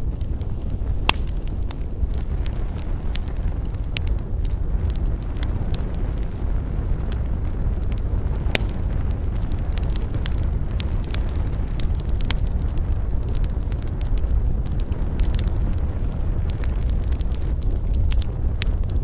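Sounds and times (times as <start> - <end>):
burning wood crackling and popping: 0.0 - 19.0
rumble of campfire flames: 0.0 - 19.0.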